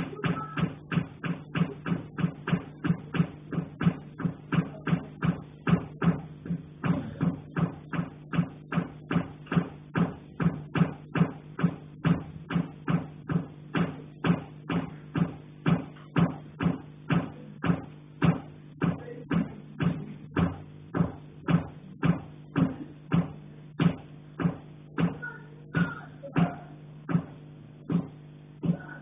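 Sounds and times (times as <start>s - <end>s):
rapid knocking on a pipe: 0.0s - 28.9s
low ringing hum: 0.0s - 29.0s.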